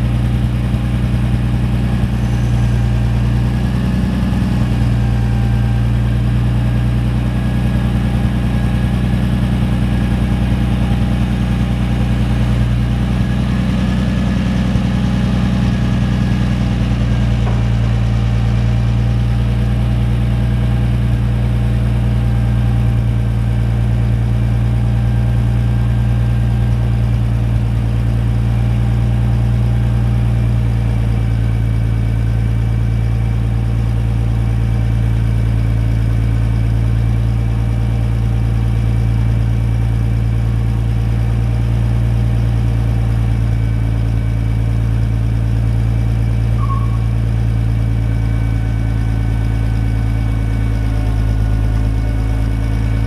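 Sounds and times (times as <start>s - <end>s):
tractor engine idling: 0.0s - 53.0s.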